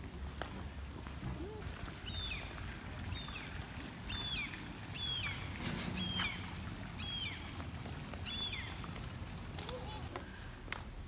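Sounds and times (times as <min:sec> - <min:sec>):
low steady outdoor rumble: 0:00.0 - 0:11.0.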